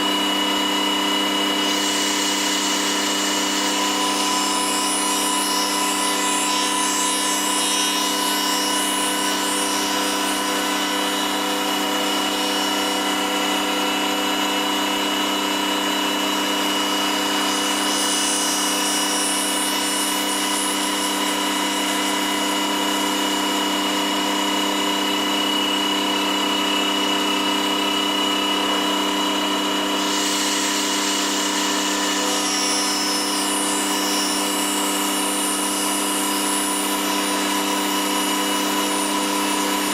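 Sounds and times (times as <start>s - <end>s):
cutter machining wood: 0.0s - 39.9s
router spindle whining: 0.0s - 39.9s.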